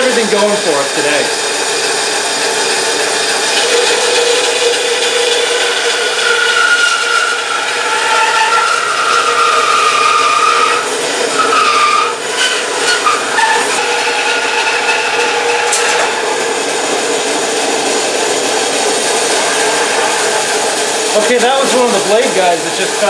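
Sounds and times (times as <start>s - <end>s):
bandsaw cutting wood: 0.0s - 23.0s.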